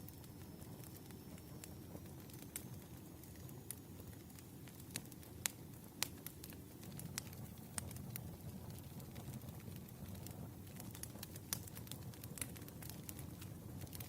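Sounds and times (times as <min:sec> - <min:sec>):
fire pops and crackles: 0:00.0 - 0:14.0
low rumble of burning wood: 0:00.0 - 0:14.0.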